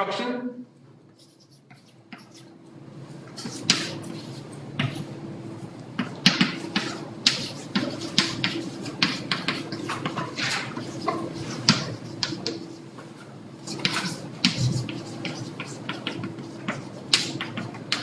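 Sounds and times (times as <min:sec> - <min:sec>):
steady low hum: 0:00.0 - 0:18.0
chalk tapping and scratching: 0:01.1 - 0:02.5, 0:03.3 - 0:18.0.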